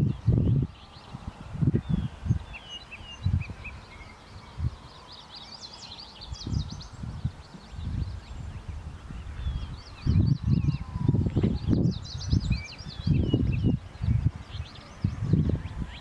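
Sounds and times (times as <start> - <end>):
songbirds chirping and singing: 0.0 - 16.0
wind rumbling on microphone: 0.0 - 16.0.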